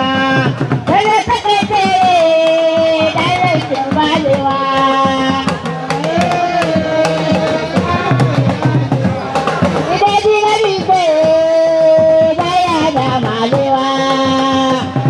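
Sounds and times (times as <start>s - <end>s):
fast drum strokes: 0.0s - 15.0s.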